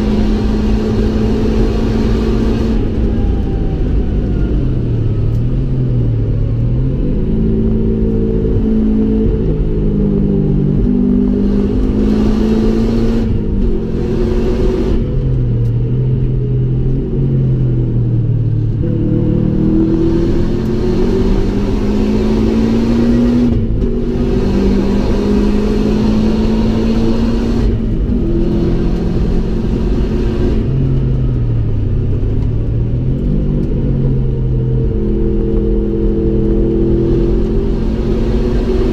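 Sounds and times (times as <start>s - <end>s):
car engine revving through gears: 0.0s - 17.6s, 18.3s - 38.9s
wind and road noise: 0.0s - 38.9s.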